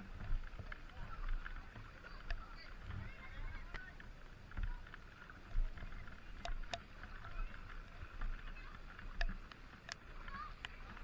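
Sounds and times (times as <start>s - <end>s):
wading through floodwater: 0.0s - 11.0s.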